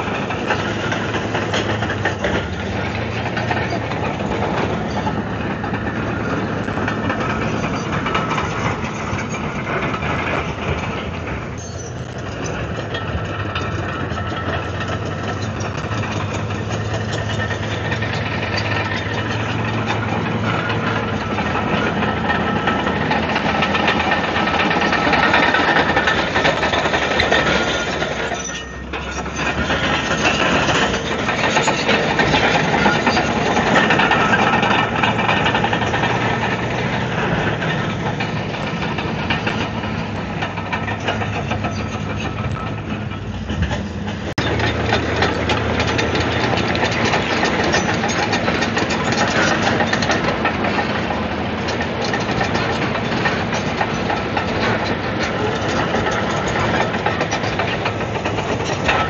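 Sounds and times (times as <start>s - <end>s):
bulldozer diesel engine under load: 0.0s - 59.0s
steel tracks clattering on stone: 0.0s - 59.0s.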